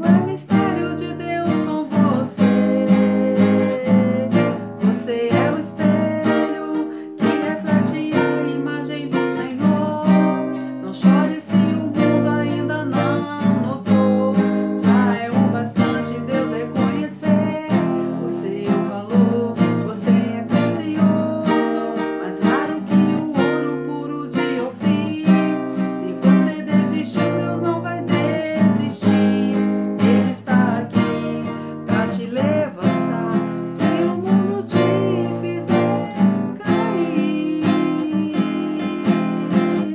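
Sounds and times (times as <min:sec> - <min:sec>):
classical guitar fingerpicking: 0:00.0 - 0:39.9.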